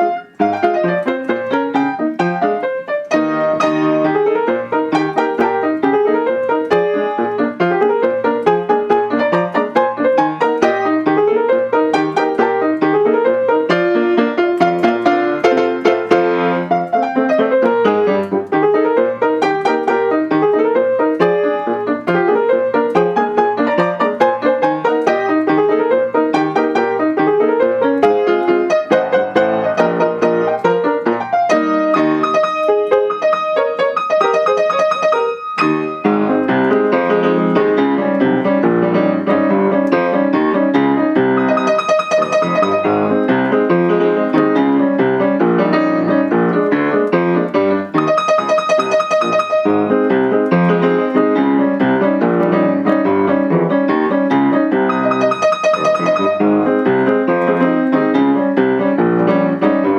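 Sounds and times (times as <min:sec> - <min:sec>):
solo piano march tune: 0:00.0 - 0:59.9.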